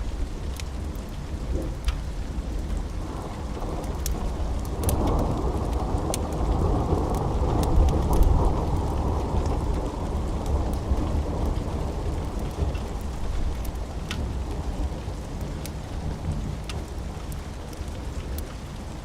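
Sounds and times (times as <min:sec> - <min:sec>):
deep rumble of thunder: 0:00.0 - 0:19.0
steady rain: 0:00.0 - 0:19.0
wood fire crackling: 0:00.0 - 0:19.0.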